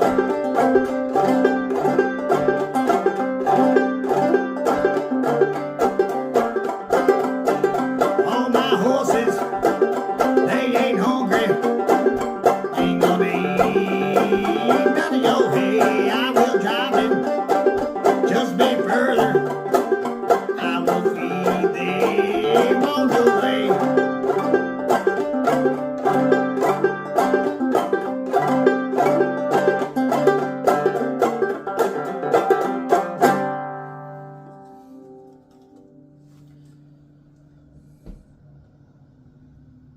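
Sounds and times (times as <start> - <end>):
banjo-led string-band music: 0.0 - 36.4.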